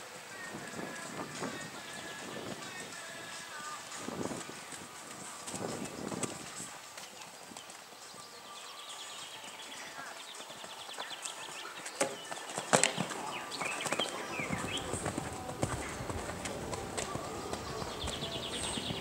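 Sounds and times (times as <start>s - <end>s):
horse hoofbeats on sand: 0.0s - 19.0s.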